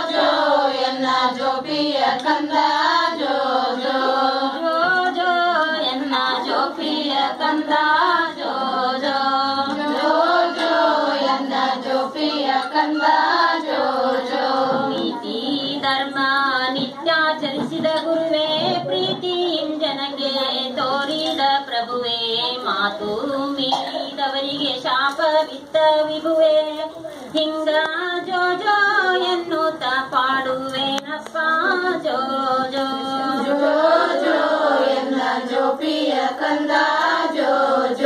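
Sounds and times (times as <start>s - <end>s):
women singing a lullaby: 0.0s - 38.0s.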